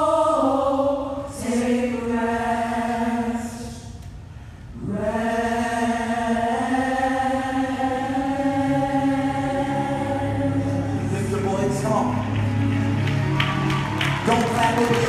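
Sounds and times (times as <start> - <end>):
gospel choir holding chords: 0.0 - 15.0.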